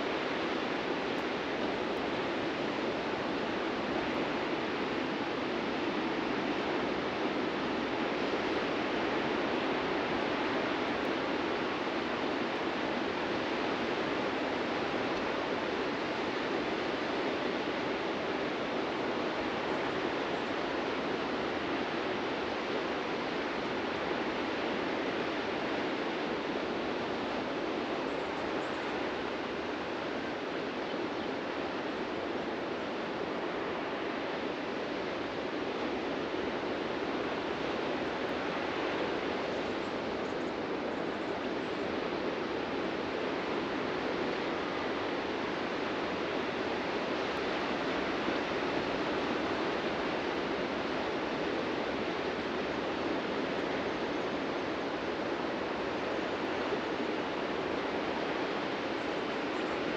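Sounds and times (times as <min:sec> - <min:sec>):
ocean surf on beach: 0:00.0 - 0:59.9.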